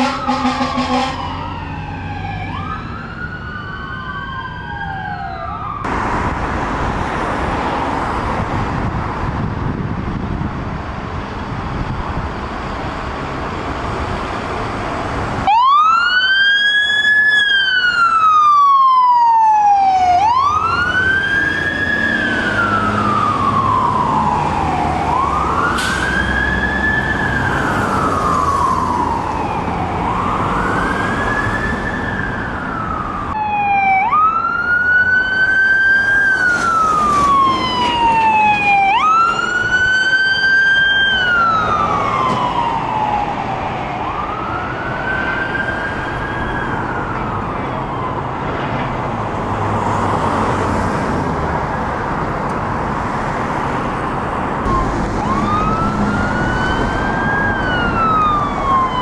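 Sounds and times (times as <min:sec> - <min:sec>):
emergency siren wailing: 0:00.0 - 0:59.0
engine and traffic rumble: 0:00.0 - 0:59.0.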